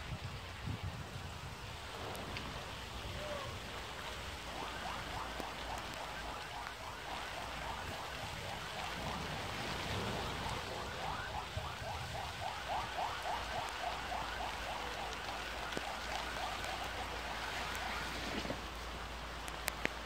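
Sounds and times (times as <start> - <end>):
rain falling on foliage: 0.0 - 20.0.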